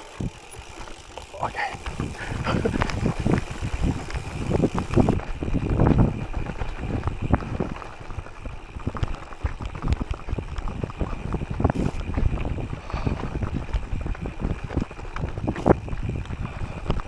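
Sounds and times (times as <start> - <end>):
bike rattling over stones: 0.0 - 17.0
bike tyres crunching on gravel: 0.0 - 17.0.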